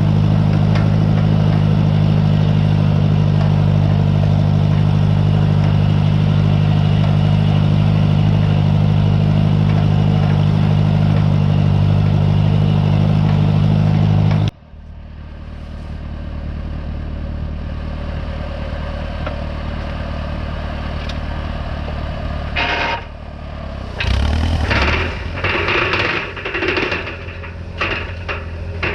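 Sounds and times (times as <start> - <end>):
tractor engine humming: 0.0 - 28.9.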